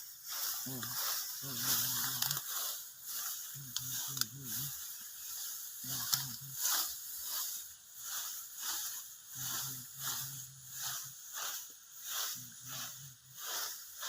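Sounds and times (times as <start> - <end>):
low rapid buzzing pulses: 0.0 - 14.0.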